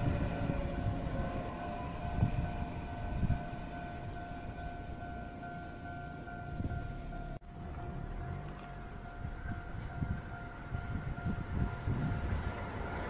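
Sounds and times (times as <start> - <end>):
electric train rumble: 0.0 - 13.0
level crossing warning bell: 0.0 - 13.0.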